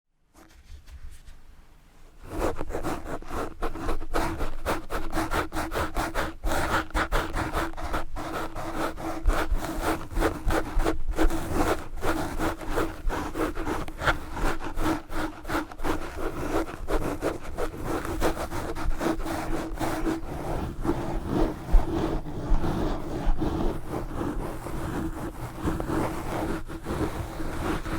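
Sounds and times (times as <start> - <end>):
gloves scratching a microphone: 2.2 - 27.9.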